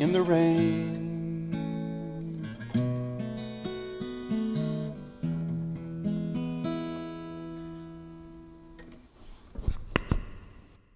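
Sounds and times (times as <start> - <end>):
acoustic guitar playing: 0.0 - 9.0.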